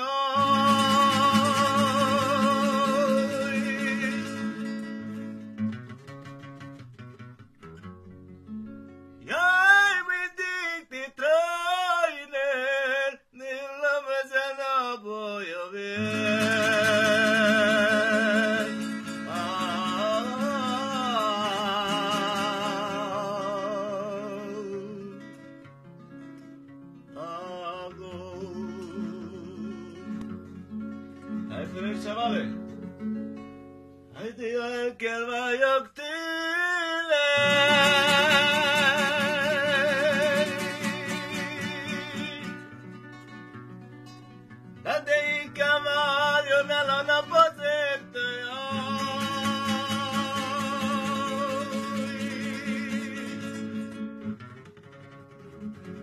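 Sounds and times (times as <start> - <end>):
man singing: 0.0 - 5.4, 9.2 - 25.4, 27.1 - 30.6, 31.3 - 32.7, 34.1 - 43.1, 44.7 - 54.2.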